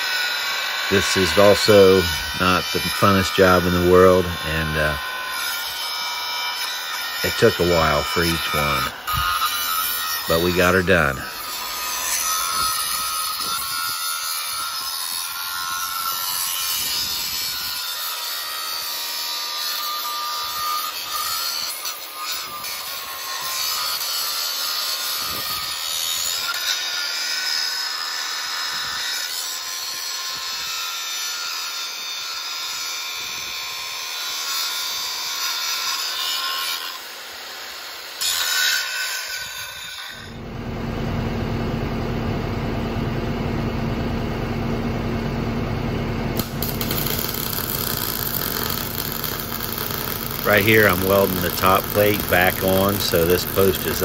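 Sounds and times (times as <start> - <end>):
angle grinder grinding steel: 0.0 - 32.4, 33.6 - 40.9, 46.4 - 54.0
welder buzzing hum: 0.0 - 54.0.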